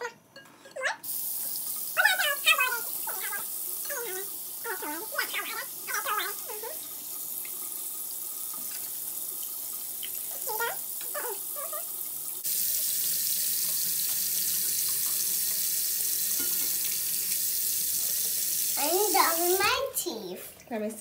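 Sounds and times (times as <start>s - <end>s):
tap water running into sink: 1.0s - 21.0s.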